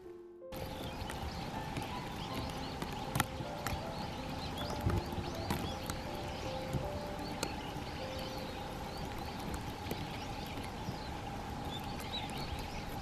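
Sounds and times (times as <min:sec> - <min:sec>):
thin constant tone: 0:00.0 - 0:13.0
faint bird chirps: 0:00.5 - 0:13.0.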